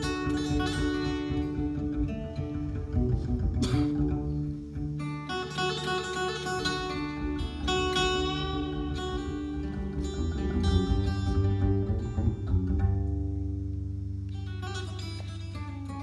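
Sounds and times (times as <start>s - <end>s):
bright plucked string notes: 0.0s - 16.0s
deep plucked bass notes: 0.0s - 16.0s.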